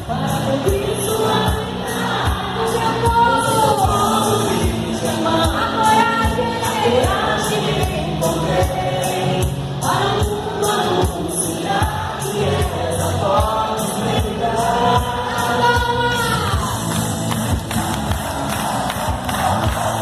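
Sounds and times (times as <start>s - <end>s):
group singing: 0.0s - 16.7s.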